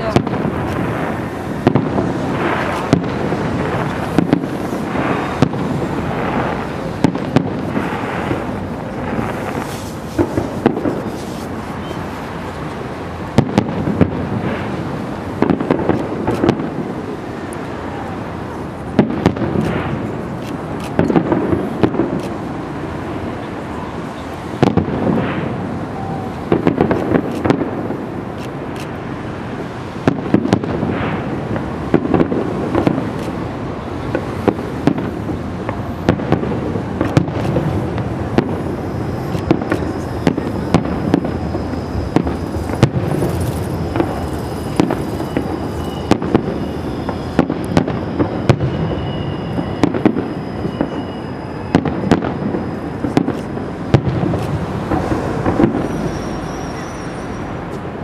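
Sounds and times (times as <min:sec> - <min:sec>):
continuous rumble: 0:00.0 - 0:58.0
fireworks bursting bangs: 0:00.0 - 0:58.0.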